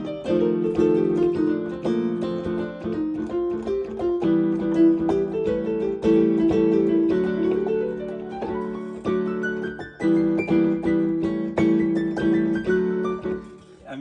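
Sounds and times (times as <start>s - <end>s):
jazz keyboard improvisation: 0.0s - 13.9s.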